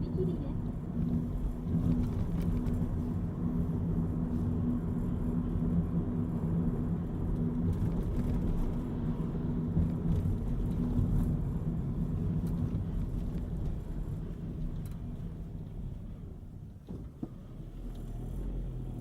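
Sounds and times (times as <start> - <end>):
car engine rumble from inside cabin: 0.0 - 19.0.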